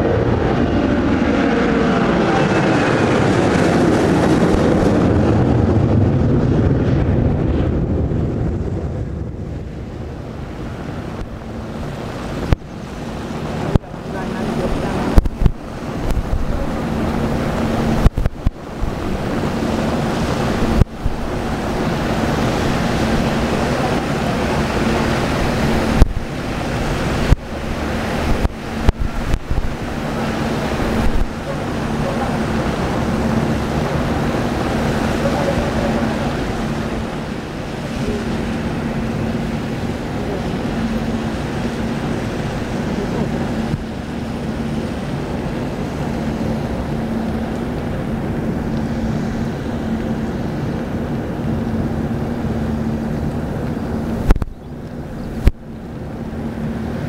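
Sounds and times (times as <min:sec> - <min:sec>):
heavy rain: 0:00.0 - 0:57.0
wind buffeting microphone: 0:00.0 - 0:57.0.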